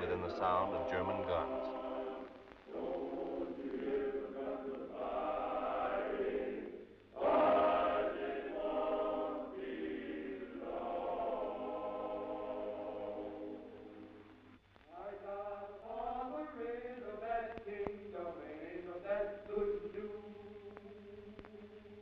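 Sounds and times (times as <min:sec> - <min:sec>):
men's choir singing: 0:00.0 - 0:14.1, 0:15.0 - 0:20.4.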